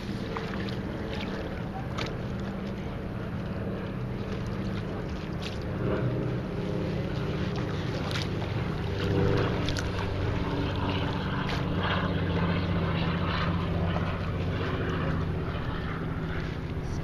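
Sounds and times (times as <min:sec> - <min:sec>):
motorboat engine humming: 0:00.0 - 0:17.0
paddle splashes: 0:00.0 - 0:17.0.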